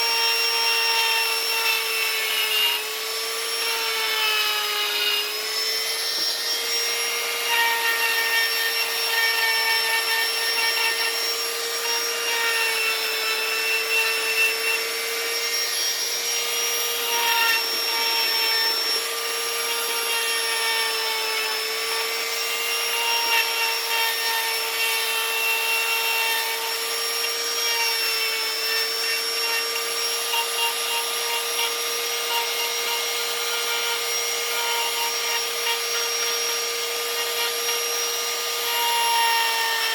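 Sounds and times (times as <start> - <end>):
cutter rasping on wood: 0.0 - 39.9
power tool motor whine: 0.0 - 39.9.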